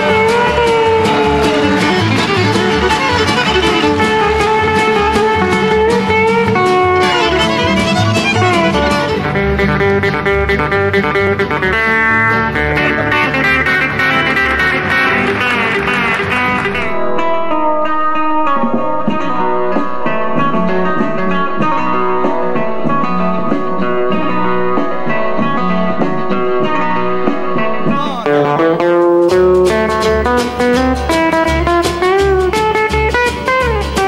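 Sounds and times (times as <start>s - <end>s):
banjo and guitars picking: 0.0s - 34.0s
bass: 0.0s - 34.0s.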